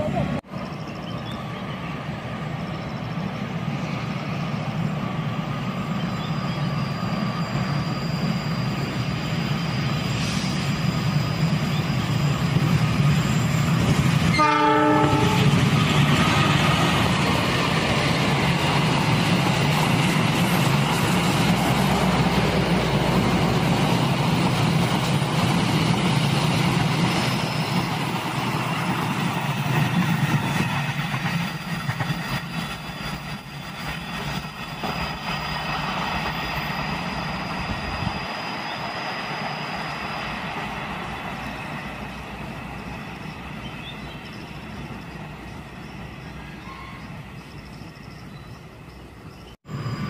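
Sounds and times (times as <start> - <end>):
train carriages running over rails: 0.0 - 50.0.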